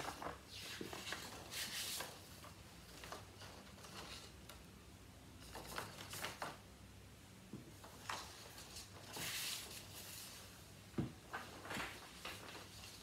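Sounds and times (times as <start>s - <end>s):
paper rustling: 0.0s - 4.5s, 5.4s - 6.6s, 7.8s - 13.0s.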